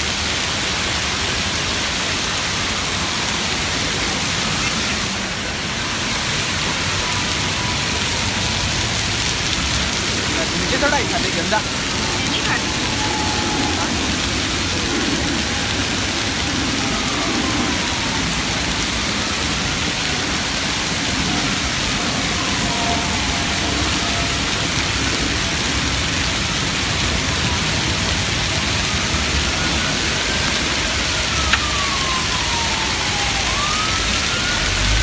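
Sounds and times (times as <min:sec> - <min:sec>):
hail and rain pelting ground: 0:00.0 - 0:35.0
distant siren wailing: 0:02.0 - 0:35.0.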